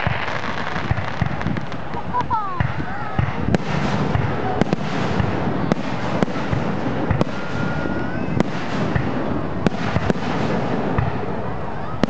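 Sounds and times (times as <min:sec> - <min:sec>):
fireworks bangs: 0:00.0 - 0:12.0
noisy rumble of fireworks display: 0:00.0 - 0:12.0.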